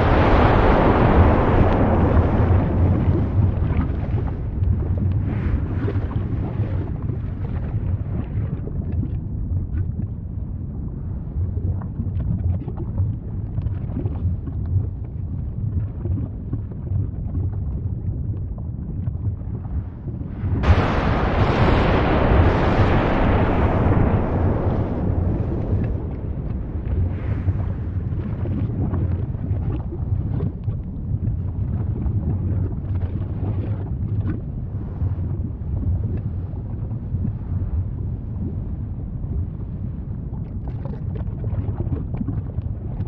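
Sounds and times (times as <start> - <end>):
faint crackles: 0.0 - 10.2, 11.1 - 43.0
volcanic eruption rumble: 0.0 - 43.0.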